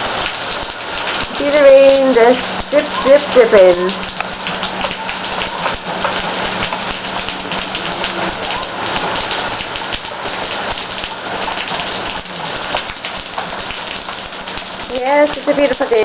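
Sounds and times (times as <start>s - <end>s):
pouring rain: 0.0s - 16.0s.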